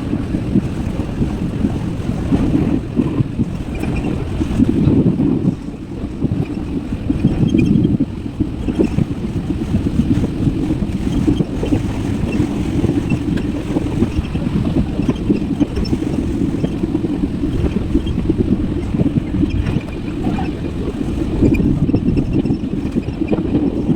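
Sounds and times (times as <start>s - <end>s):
road and wind noise: 0.0s - 23.9s.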